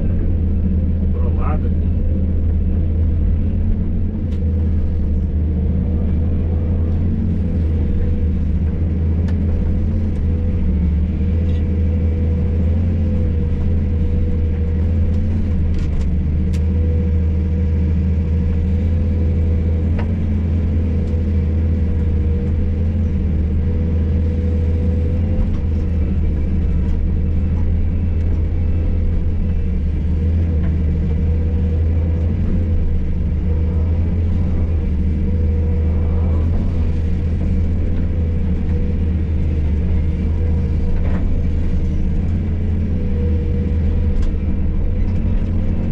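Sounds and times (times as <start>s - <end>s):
excavator diesel engine drone: 0.0s - 45.9s.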